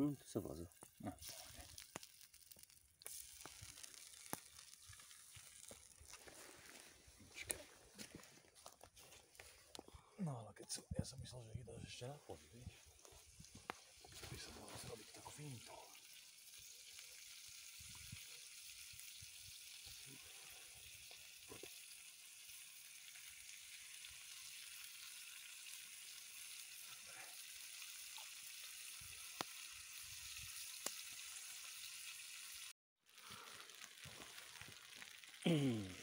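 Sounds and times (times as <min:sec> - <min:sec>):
fish sizzling in pan: 0:00.0 - 0:07.1, 0:12.9 - 0:36.0.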